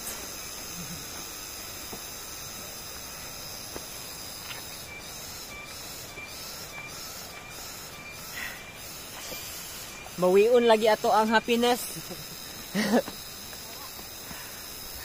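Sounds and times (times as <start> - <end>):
drone of forest insects: 0.0 - 15.0
pulsing high call: 0.0 - 15.0.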